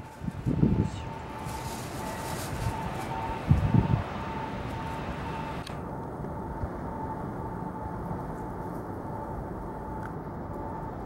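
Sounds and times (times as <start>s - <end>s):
electric train rumble and hum: 0.0s - 11.0s.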